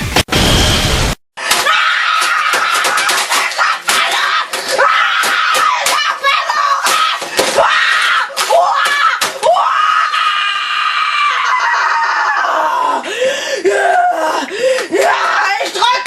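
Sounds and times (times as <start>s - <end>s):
person screaming: 1.4s - 15.6s.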